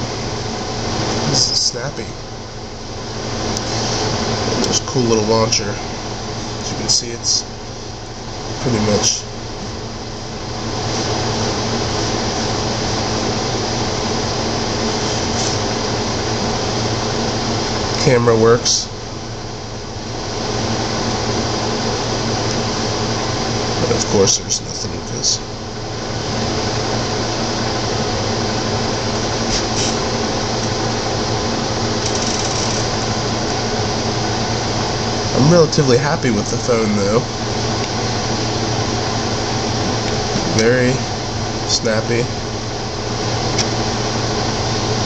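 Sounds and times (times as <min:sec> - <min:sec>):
fan-like mechanical hum: 0:00.0 - 0:45.0.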